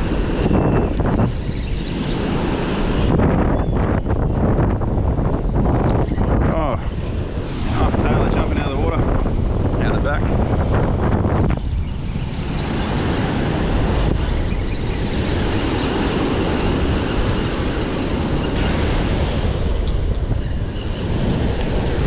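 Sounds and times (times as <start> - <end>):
surf breaking on a beach: 0.0 - 22.0
wind rumbling on microphone: 0.0 - 22.0.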